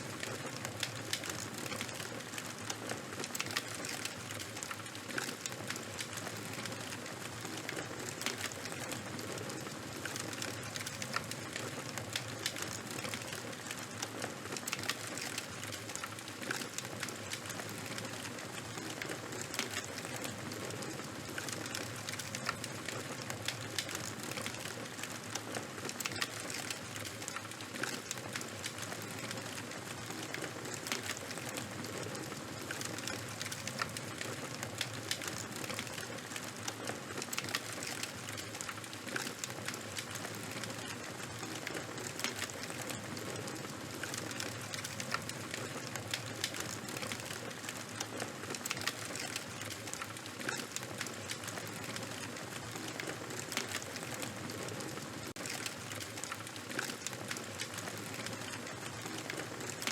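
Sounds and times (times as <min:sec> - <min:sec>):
bonfire crackling: 0:00.0 - 0:59.9.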